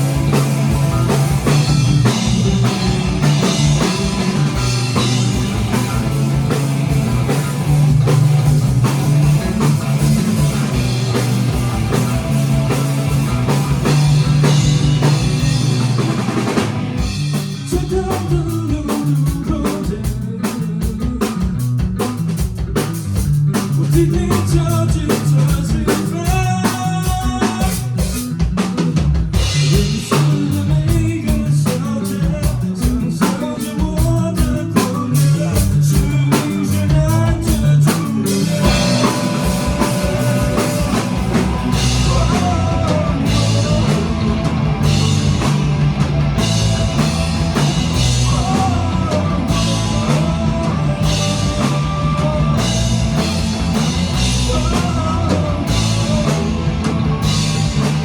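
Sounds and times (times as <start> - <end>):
drum kit: 0.0 - 58.0
rock band playing live: 0.0 - 58.0.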